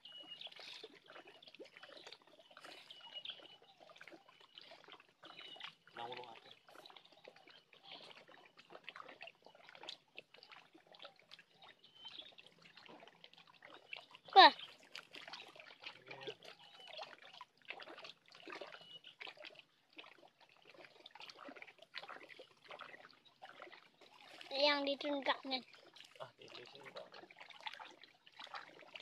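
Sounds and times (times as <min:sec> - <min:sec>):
water lapping against rocks: 0:00.0 - 0:29.0.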